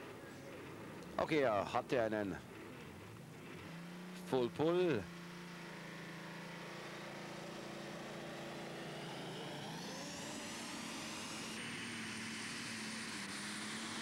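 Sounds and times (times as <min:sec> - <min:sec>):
tractor engine running hard: 0:02.3 - 0:14.0.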